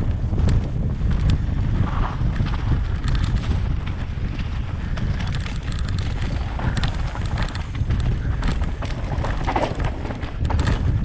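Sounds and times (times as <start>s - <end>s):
bike clicks and rattles: 0.0s - 11.0s
tyres on dirt trail: 0.0s - 11.0s
wind buffeting microphone: 0.0s - 11.0s.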